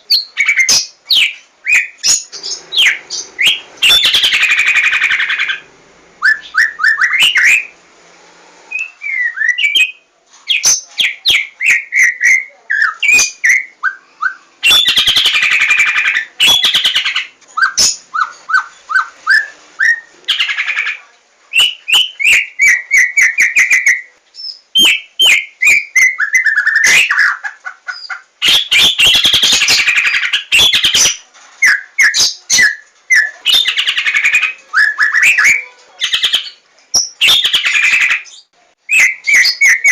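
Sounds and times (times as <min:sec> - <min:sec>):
harsh scratchy bird calls: 0:00.0 - 0:07.8, 0:08.7 - 0:39.9
songbird whistling and trilling: 0:00.1 - 0:05.6, 0:06.2 - 0:07.8, 0:08.7 - 0:20.5, 0:21.5 - 0:27.4, 0:28.0 - 0:39.9.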